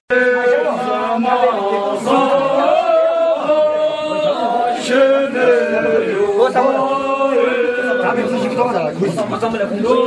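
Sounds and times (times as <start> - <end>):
group of voices chanting: 0.1 - 8.7.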